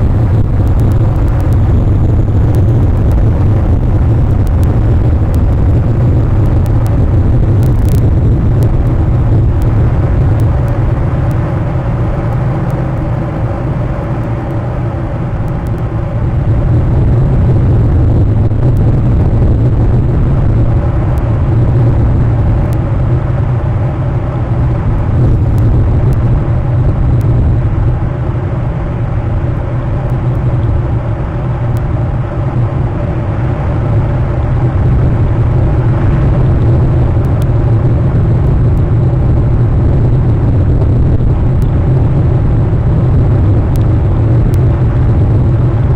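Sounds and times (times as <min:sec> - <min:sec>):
loud low outdoor rumble: 0:00.0 - 0:45.9.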